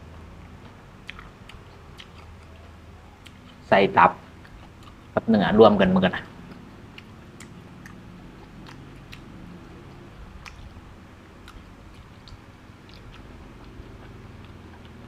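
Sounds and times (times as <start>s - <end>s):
low hum: 0.0s - 15.0s
person chewing: 0.6s - 3.7s, 4.3s - 5.2s, 6.4s - 15.0s.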